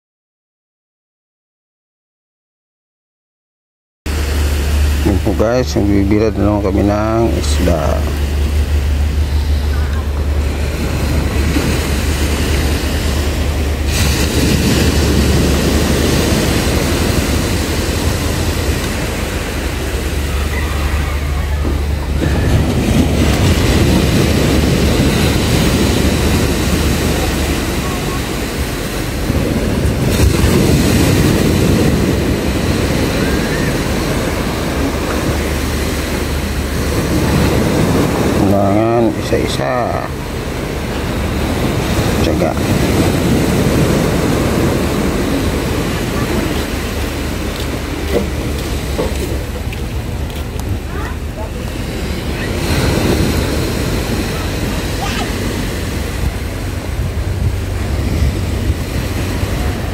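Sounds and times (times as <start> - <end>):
surf washing in: 4.1 - 59.9
wind rumbling on microphone: 4.1 - 59.9.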